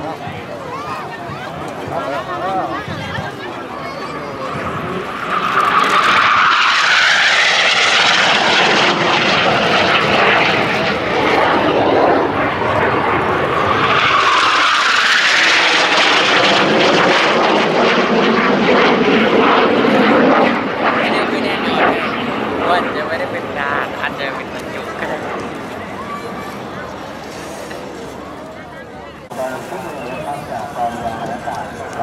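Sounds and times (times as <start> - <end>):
jet fighter roaring past: 0.0 - 28.4, 29.2 - 32.0.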